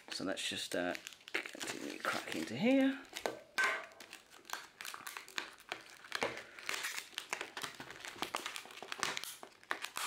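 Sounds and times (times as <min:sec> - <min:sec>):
stiff plastic crackling: 0:00.0 - 0:10.0.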